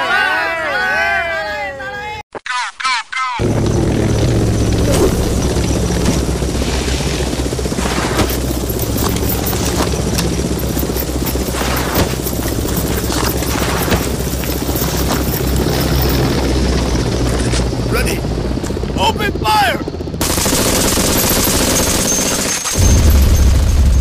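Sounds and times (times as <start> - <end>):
helicopter rotor chop: 3.4 - 24.0.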